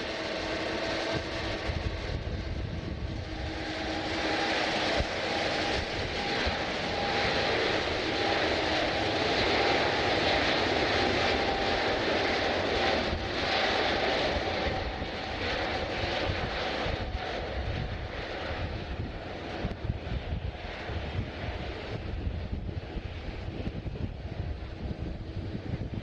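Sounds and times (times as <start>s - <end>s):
jet airliner engines passing: 0.0s - 26.0s.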